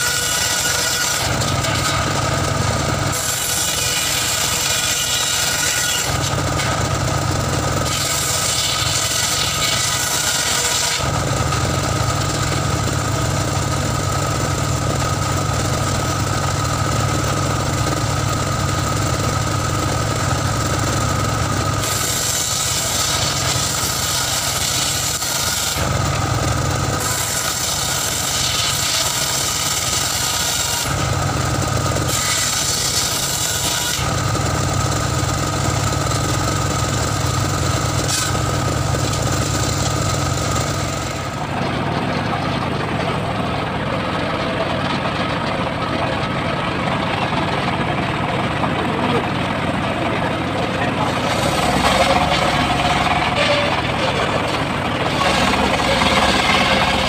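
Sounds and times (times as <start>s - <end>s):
circular saw ripping wood: 0.0s - 41.5s, 51.0s - 57.0s.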